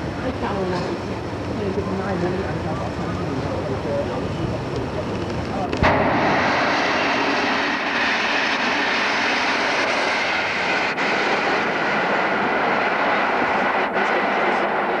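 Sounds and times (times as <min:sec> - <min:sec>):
passenger train passing: 0:00.0 - 0:15.0.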